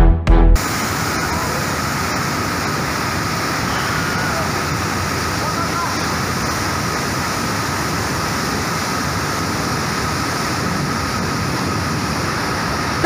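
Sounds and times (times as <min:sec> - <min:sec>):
waterfall rushing: 0:00.6 - 0:13.0.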